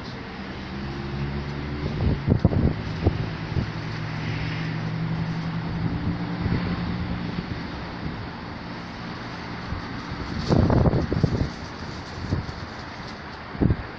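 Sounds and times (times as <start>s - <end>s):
vehicle engine hum: 0.0s - 13.9s
wind buffeting microphone: 1.6s - 13.9s.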